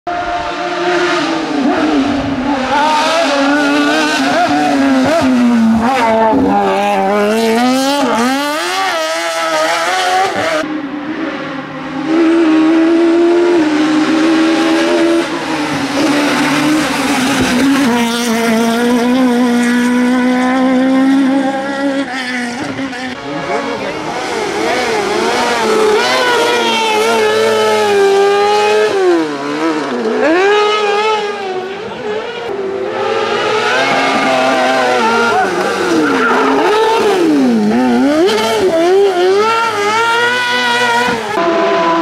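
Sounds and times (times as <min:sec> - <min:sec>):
rally car engines revving: 0:00.1 - 0:42.0.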